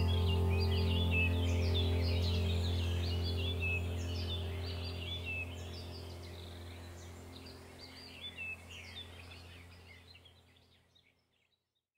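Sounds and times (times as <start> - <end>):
held music chord: 0.0 - 9.9
small birds chirping: 0.0 - 11.7.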